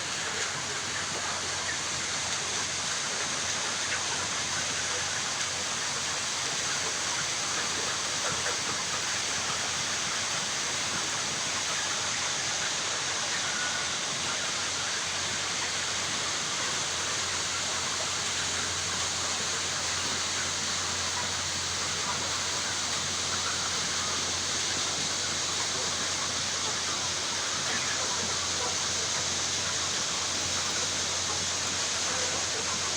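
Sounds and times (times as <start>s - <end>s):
chickens hissing din: 0.0s - 32.9s.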